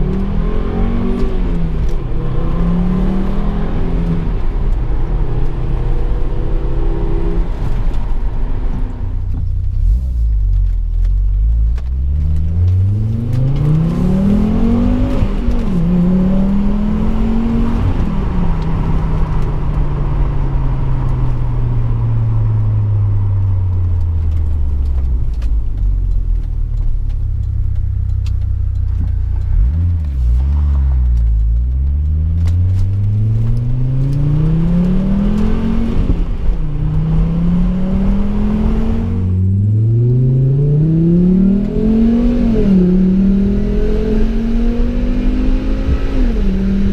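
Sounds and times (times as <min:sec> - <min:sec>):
car engine and exhaust accelerating: 0:00.0 - 0:46.9.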